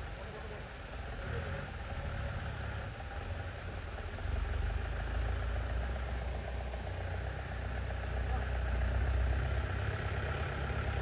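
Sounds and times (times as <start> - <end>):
off-road vehicle engines rumbling: 0.0 - 11.0.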